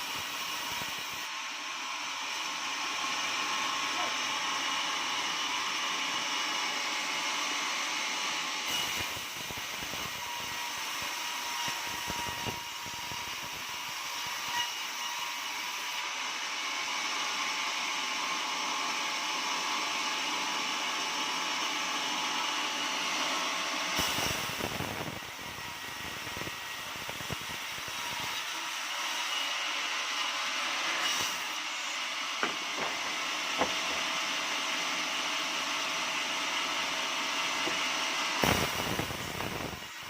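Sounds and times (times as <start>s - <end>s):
sawmill sawing a log: 0.0s - 40.0s.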